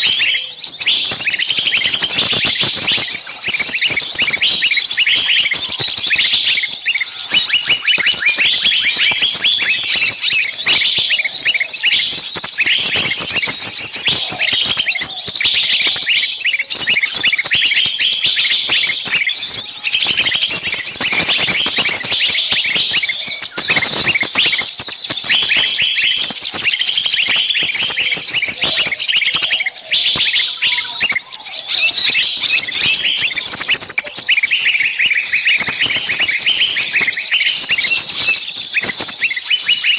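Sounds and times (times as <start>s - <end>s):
songbirds chirping in distress: 0.0s - 39.9s.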